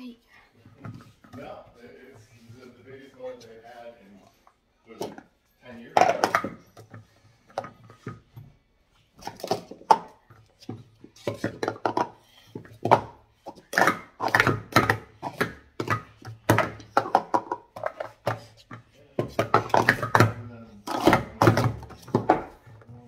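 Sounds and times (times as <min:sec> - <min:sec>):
plastic cups clattering: 0:00.6 - 0:02.6, 0:04.9 - 0:08.4, 0:09.0 - 0:23.0.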